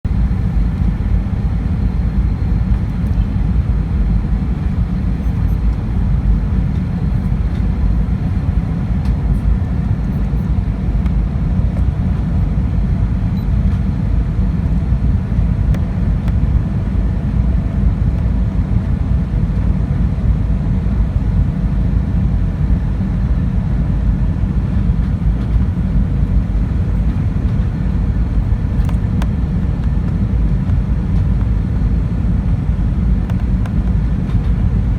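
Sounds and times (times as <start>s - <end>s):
aircraft cabin engine rumble: 0.0s - 34.9s.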